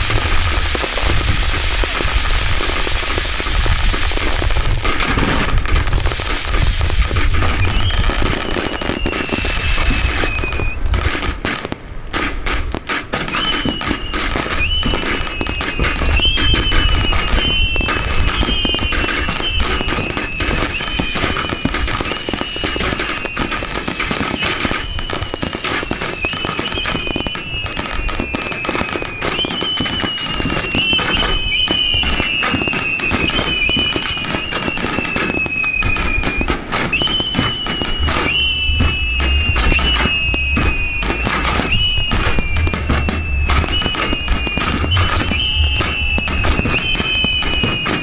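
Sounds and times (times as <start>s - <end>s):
fireworks bangs and crackling: 0.0s - 48.0s
fireworks whistling: 0.0s - 48.0s.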